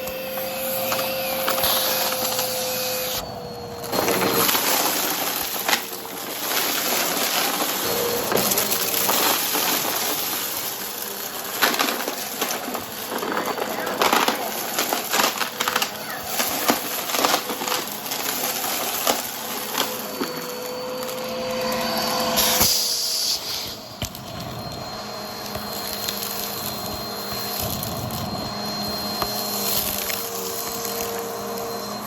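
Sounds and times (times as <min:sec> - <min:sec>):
high whine: 0:00.0 - 0:14.4, 0:15.0 - 0:32.0
vacuum cleaner motor: 0:00.0 - 0:32.0.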